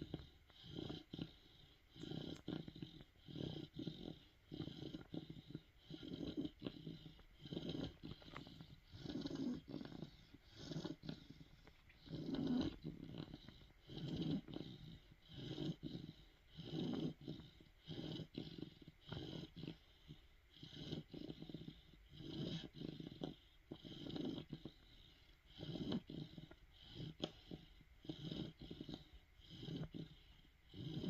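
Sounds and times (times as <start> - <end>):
puppy snoring: 0.0 - 31.0.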